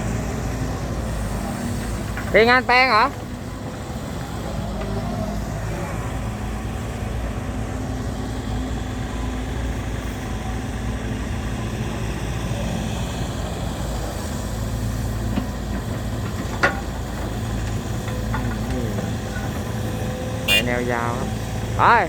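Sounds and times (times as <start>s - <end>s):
diesel machinery humming: 0.0s - 22.0s.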